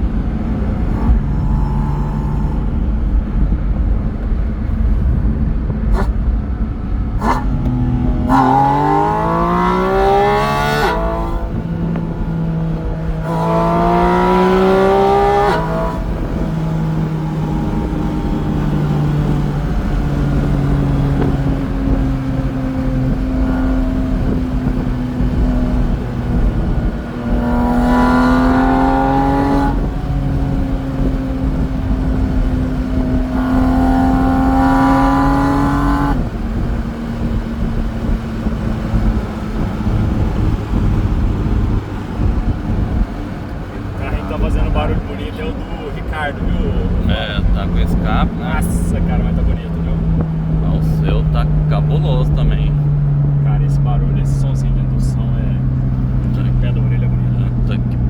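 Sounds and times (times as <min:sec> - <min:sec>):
car engine accelerating: 0:00.0 - 0:58.0
low road rumble: 0:00.0 - 0:58.0.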